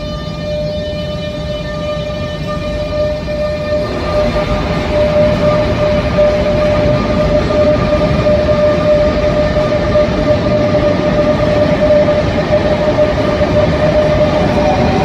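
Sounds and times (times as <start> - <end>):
high steady train whine: 0.0 - 15.0
train wheels rumbling: 0.0 - 15.0.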